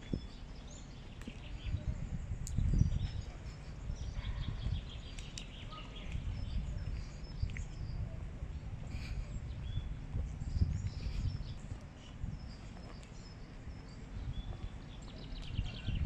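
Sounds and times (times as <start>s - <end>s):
low uneven rumble: 0.0s - 16.0s
small birds chirping: 0.0s - 16.0s.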